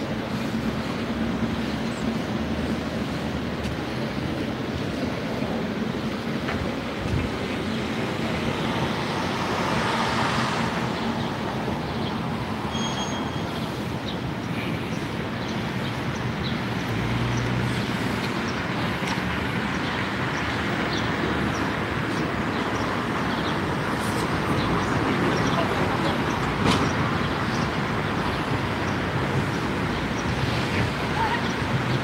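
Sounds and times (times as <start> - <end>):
city street traffic: 0.0 - 32.0.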